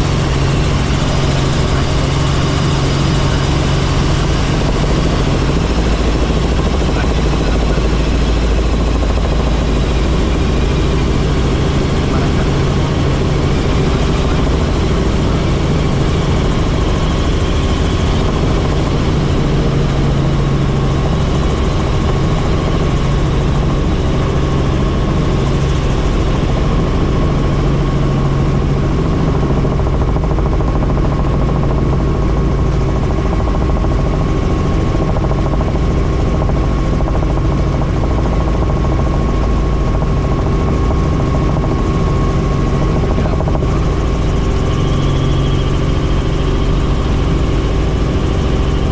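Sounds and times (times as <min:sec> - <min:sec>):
helicopter turbine and rotor noise: 0:00.0 - 0:48.9.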